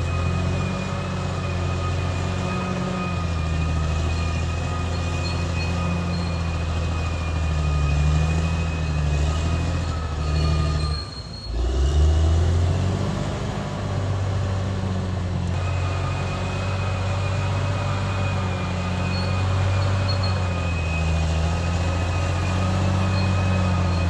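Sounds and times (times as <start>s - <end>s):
steady high squeal: 0.0s - 12.4s, 13.6s - 24.0s
bulldozer diesel engine under load: 0.0s - 24.0s.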